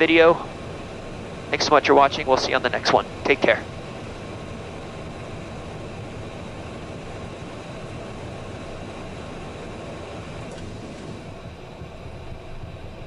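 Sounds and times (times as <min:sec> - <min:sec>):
jet cockpit rushing noise: 0:00.0 - 0:13.0.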